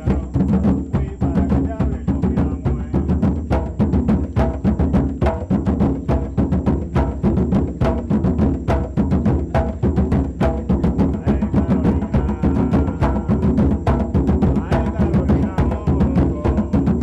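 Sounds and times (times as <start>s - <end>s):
hand drums playing fast rhythm: 0.0s - 17.0s.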